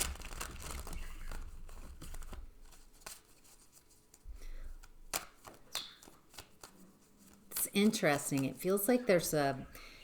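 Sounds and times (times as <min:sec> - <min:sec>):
cards rustling: 0:00.0 - 0:09.4.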